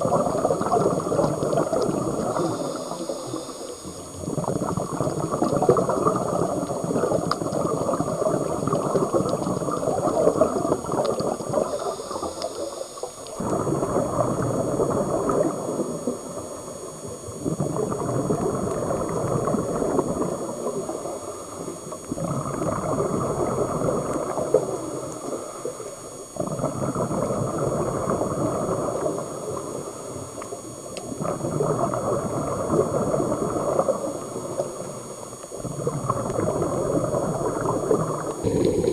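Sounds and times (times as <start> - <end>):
underwater breathing bubbles: 0.0 - 38.9.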